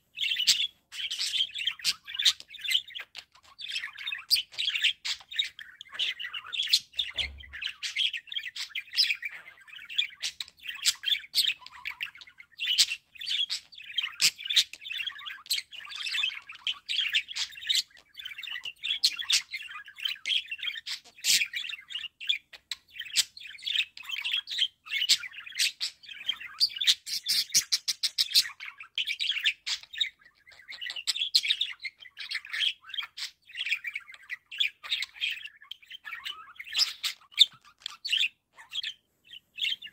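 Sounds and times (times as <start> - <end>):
budgerigars chirping: 0.1 - 39.9.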